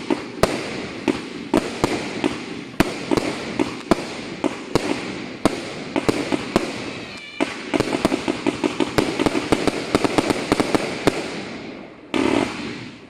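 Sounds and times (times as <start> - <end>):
firework barrage crackling bangs: 0.0 - 13.0.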